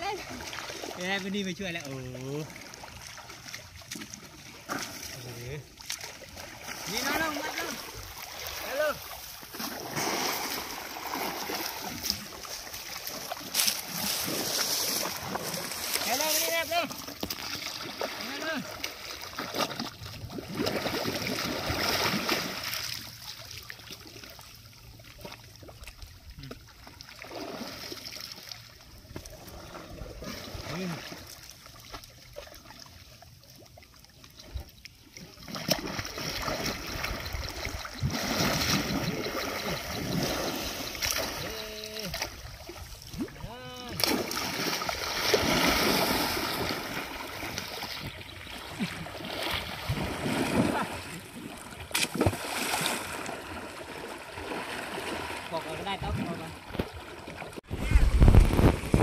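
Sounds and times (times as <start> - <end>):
water lapping: 0.0 - 59.0
water splashing and sloshing: 0.0 - 59.0.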